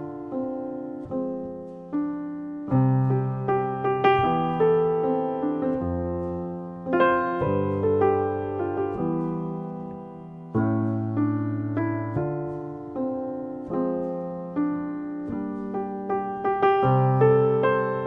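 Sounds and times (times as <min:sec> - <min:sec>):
slow gentle piano: 0:00.0 - 0:18.0.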